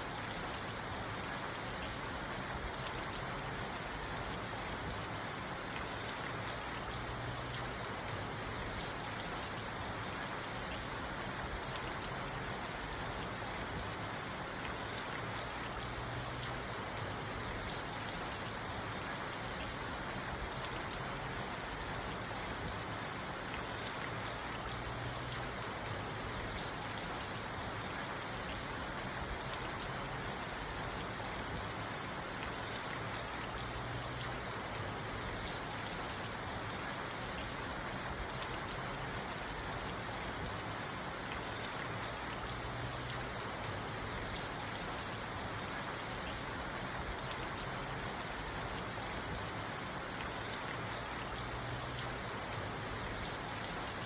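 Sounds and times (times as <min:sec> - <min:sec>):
rain on a car roof: 0:00.0 - 0:54.0.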